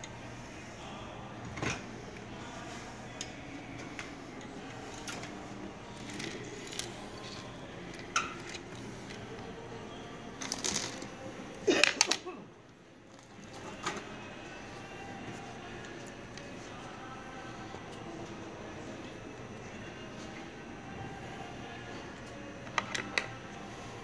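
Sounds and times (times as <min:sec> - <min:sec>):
shop background noise: 0:00.0 - 0:24.0.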